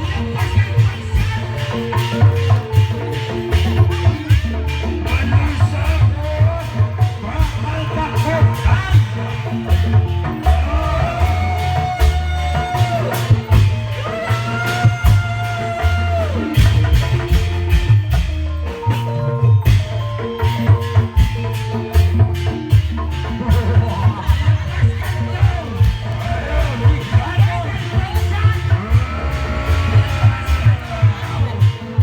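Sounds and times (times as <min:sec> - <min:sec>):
heavy drum rhythm: 0:00.0 - 0:32.0
melody instrument holding long notes: 0:00.0 - 0:32.0.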